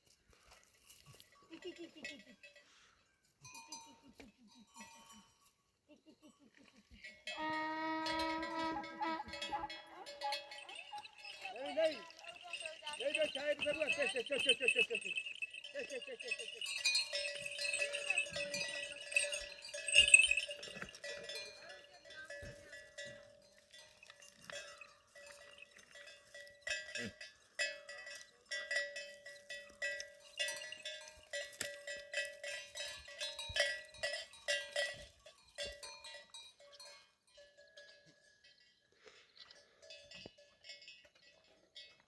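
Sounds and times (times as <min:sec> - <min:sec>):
livestock bells clanking: 0:00.4 - 0:42.0.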